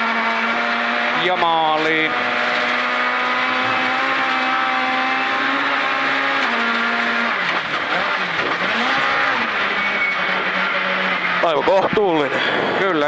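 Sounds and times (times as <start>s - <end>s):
rally car engine: 0.0s - 13.0s
road and gravel noise: 0.0s - 13.0s.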